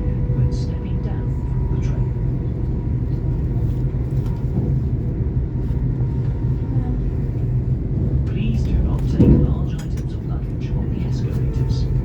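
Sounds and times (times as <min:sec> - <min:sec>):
train rumble from inside coach: 0:00.0 - 0:12.0.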